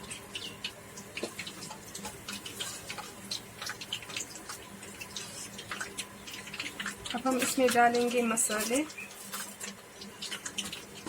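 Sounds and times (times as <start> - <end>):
fish deep-frying in oil: 0.0 - 11.0
sharp crackles and pops of oil: 0.0 - 11.0.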